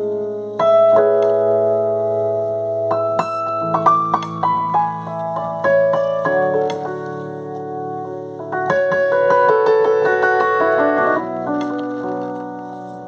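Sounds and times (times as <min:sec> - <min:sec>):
slow piano playing: 0:00.0 - 0:13.0.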